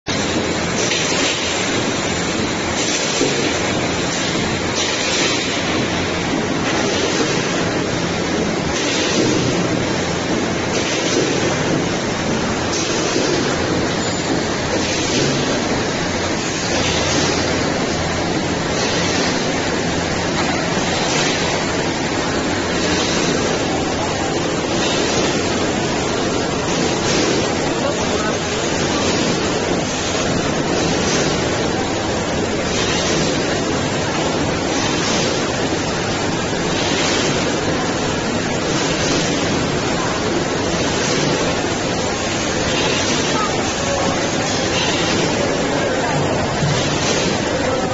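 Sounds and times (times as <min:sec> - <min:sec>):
machine running with rushing noise: 0:00.1 - 0:47.9.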